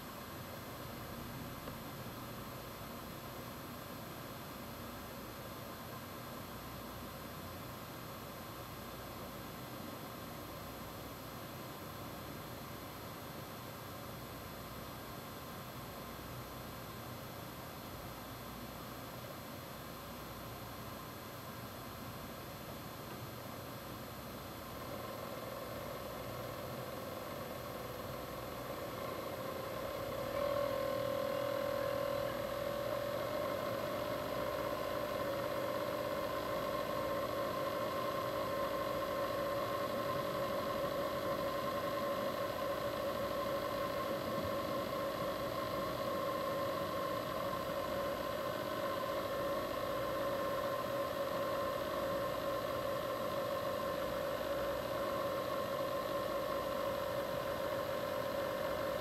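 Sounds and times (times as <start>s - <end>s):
two-tone mechanical hum: 0.0s - 59.0s.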